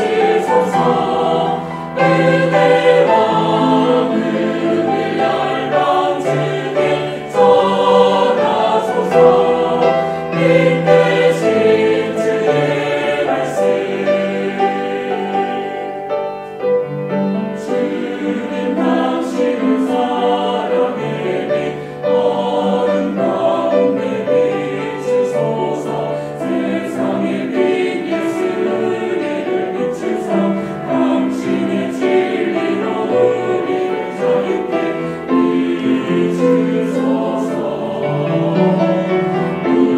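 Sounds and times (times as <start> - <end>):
choir singing: 0.0 - 39.9
piano and strings: 0.0 - 39.9.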